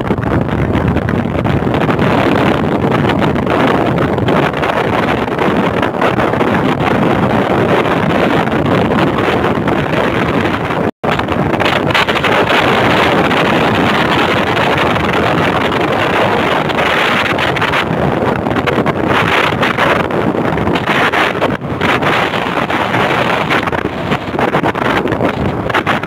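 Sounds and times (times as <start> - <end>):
rough surf: 0.0 - 26.0
wind buffeting microphone: 0.0 - 26.0.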